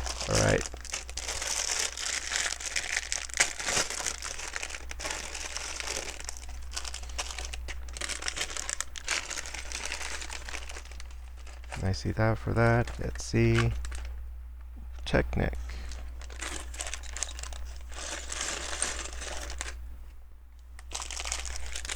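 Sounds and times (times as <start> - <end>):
plastic bricks rustling: 0.0 - 12.0, 12.8 - 14.1, 15.8 - 19.8, 20.8 - 21.9.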